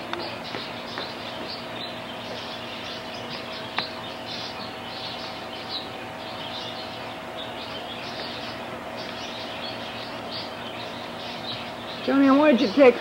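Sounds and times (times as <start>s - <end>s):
birds chirping: 0.0s - 13.0s
faint steady hum: 0.0s - 13.0s.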